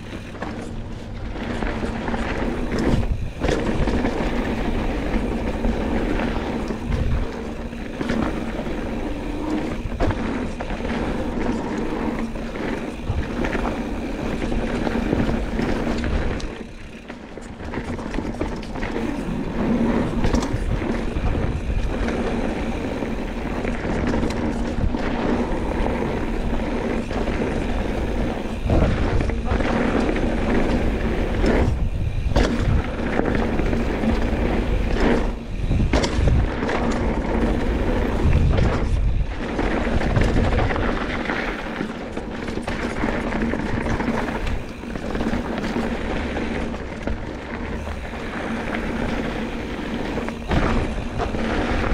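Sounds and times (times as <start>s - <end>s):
bike rattling and knocking: 0.0s - 51.9s
tyres rumbling over dirt: 0.0s - 51.9s.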